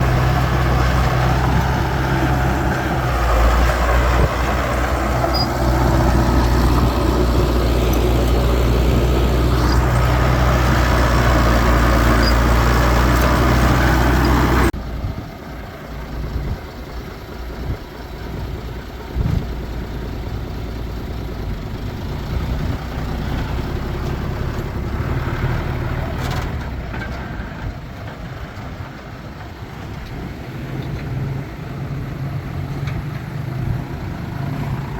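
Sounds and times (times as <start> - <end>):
heavy machinery diesel engine: 0.0 - 34.9.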